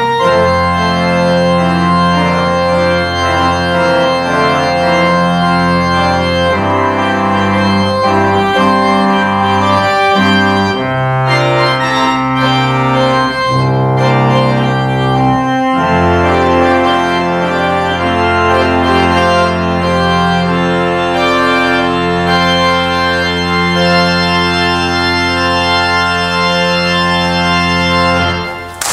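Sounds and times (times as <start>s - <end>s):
church organ chords: 0.0s - 28.9s.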